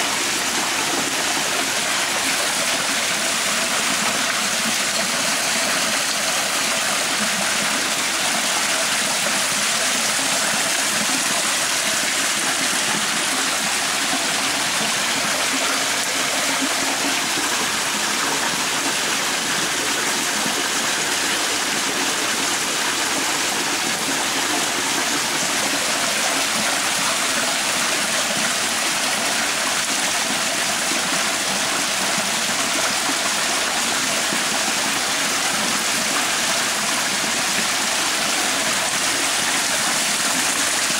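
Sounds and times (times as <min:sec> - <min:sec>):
floodwater rushing and splashing: 0:00.0 - 0:40.9.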